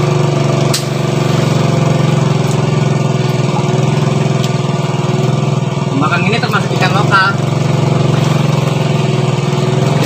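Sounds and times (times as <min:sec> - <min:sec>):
small engine running steadily: 0:00.0 - 0:10.0.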